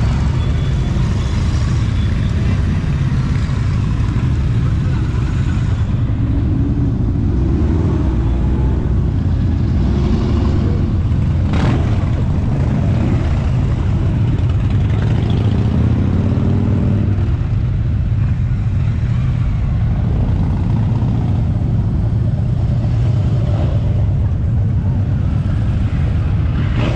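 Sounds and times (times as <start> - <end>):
motorcycles riding past: 0.0 - 26.9.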